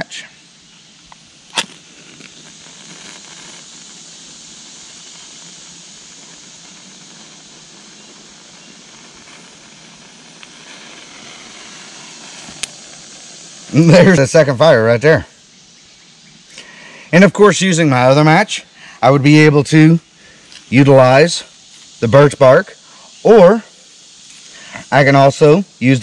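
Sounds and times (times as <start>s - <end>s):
small fire hissing and crackling: 0.0s - 26.0s.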